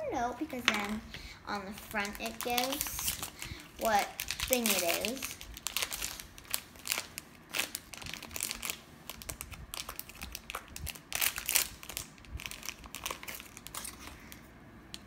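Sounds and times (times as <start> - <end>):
foil wrapper crinkling: 1.6 - 14.4.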